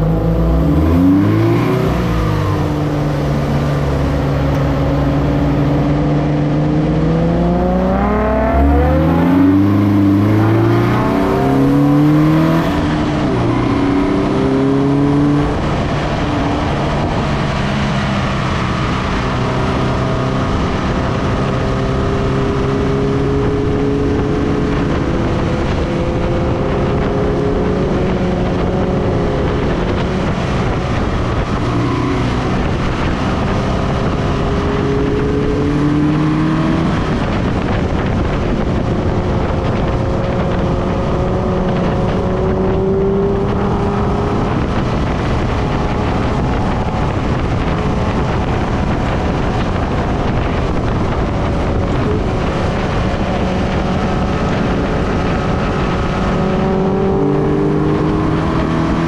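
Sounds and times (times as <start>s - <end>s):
car engine accelerating: 0.0s - 59.0s
wind and tyre roar: 0.0s - 59.0s.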